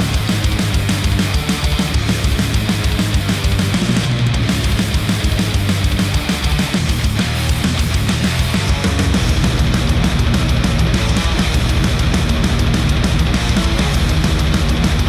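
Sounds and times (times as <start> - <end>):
heavy rock music through headphones: 0.0 - 15.0.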